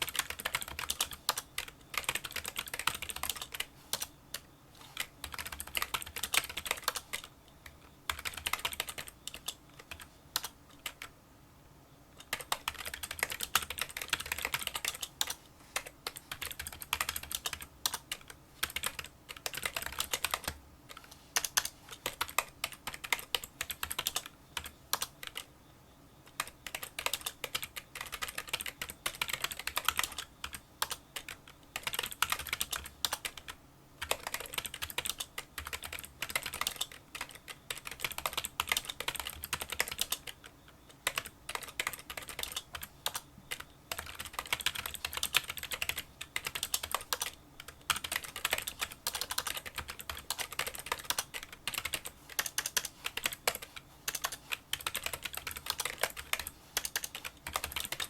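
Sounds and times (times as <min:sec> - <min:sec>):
quiet keyboard typing: 0:00.0 - 0:11.2, 0:12.1 - 0:25.5, 0:26.2 - 0:58.0.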